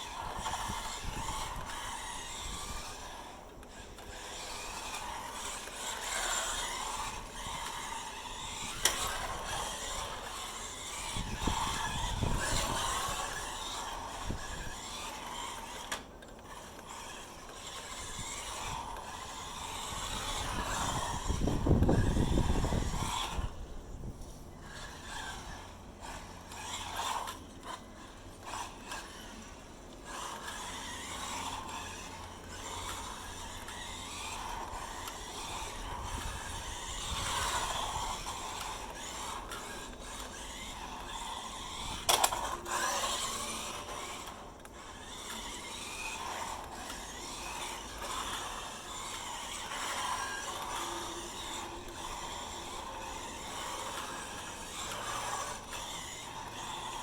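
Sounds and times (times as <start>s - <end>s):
electric motor and gears whining: 0.0s - 57.0s
tyres scraping: 0.0s - 57.0s.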